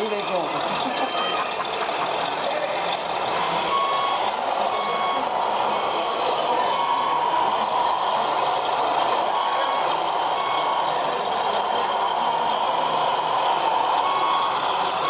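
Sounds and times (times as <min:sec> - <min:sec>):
reversing beeper: 0:00.0 - 0:02.4, 0:03.2 - 0:15.0
truck engine sound: 0:00.0 - 0:15.0.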